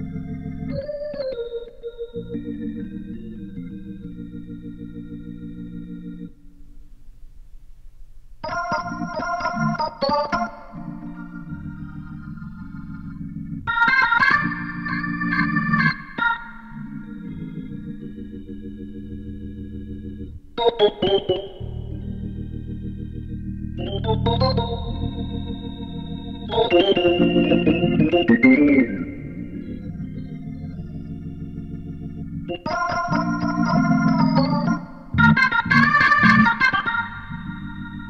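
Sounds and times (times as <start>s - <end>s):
organ chords: 0.0s - 38.0s.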